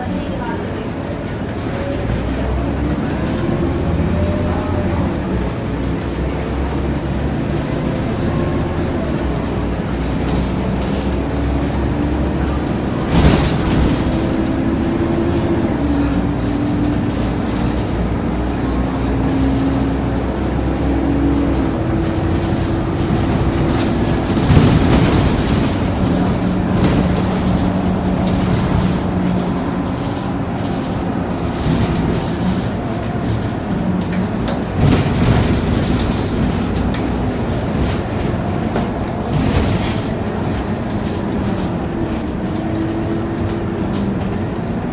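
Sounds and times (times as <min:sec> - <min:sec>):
bus engine drone and whine: 0:00.0 - 0:44.9.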